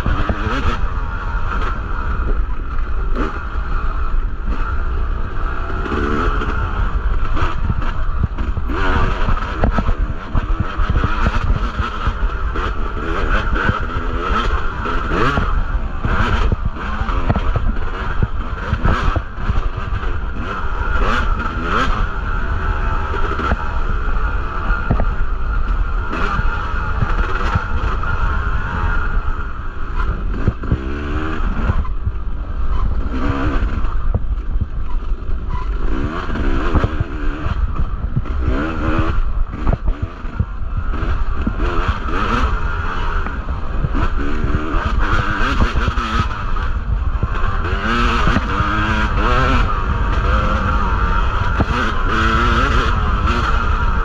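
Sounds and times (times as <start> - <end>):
two-stroke dirt bike engine revving: 0.0 - 54.0.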